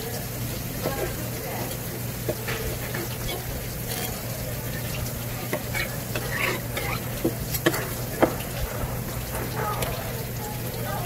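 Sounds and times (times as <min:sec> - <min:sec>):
knife scraping wet fish: 0:01.0 - 0:10.0.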